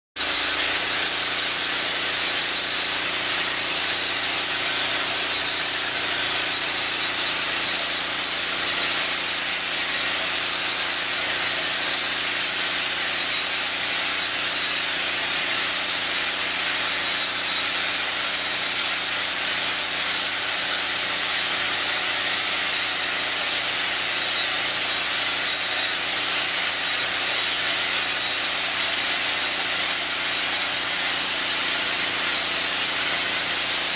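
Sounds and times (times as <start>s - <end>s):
concrete grinder grinding: 0.2s - 33.9s.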